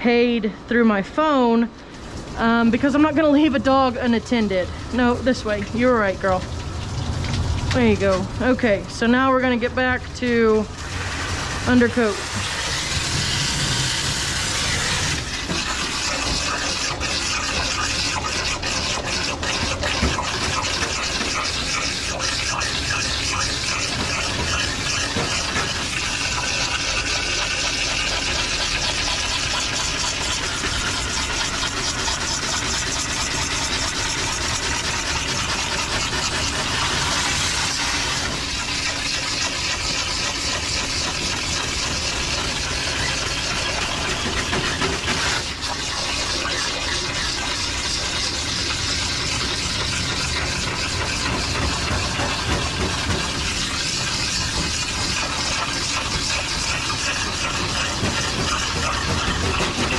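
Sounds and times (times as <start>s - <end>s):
pump running: 0.0s - 59.9s
water spraying from hose nozzle: 1.9s - 59.9s.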